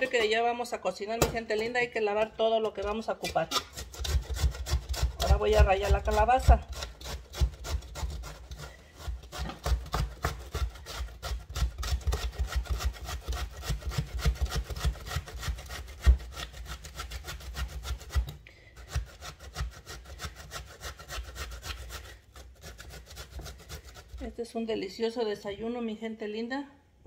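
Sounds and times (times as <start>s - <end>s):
zucchini rasping on hand grater: 2.8s - 24.6s.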